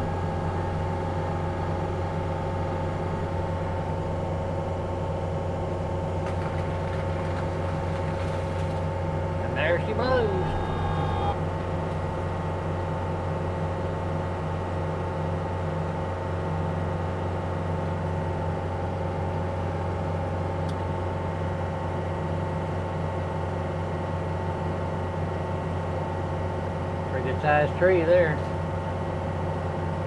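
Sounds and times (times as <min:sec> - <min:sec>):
diesel engine running with whine: 0:00.0 - 0:30.0.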